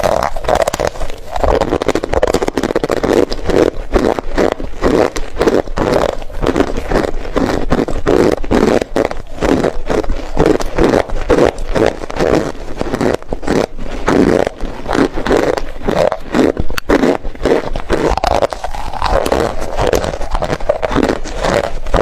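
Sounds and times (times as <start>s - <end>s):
close chewing: 0.0s - 22.0s.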